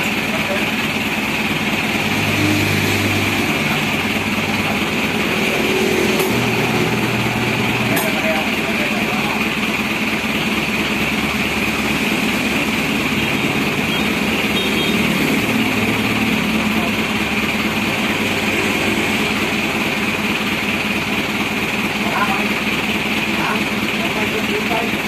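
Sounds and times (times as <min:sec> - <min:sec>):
machine humming with hiss: 0:00.0 - 0:24.6.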